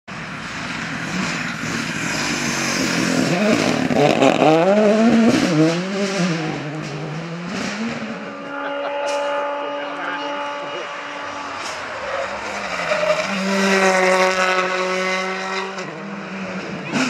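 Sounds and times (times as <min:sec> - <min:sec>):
rally car engine revving: 0:00.1 - 0:17.0.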